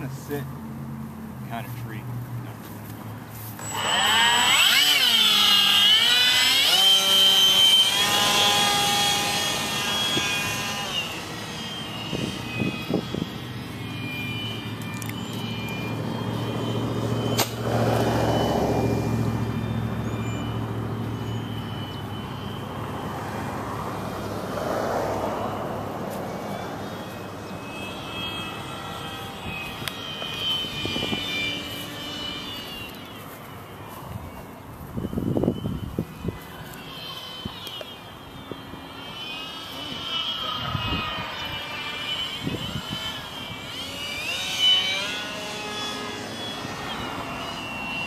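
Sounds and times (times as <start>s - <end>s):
electric motor propeller whine: 0.0s - 48.0s.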